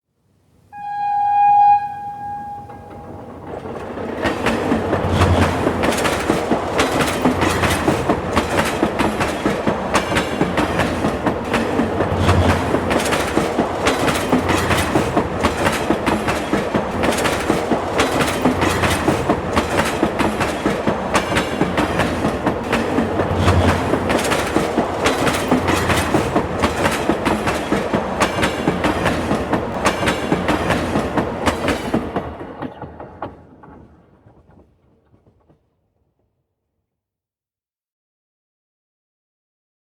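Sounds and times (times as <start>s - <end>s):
rumble of moving train: 0.8s - 35.7s
train wheels clattering: 1.7s - 35.8s.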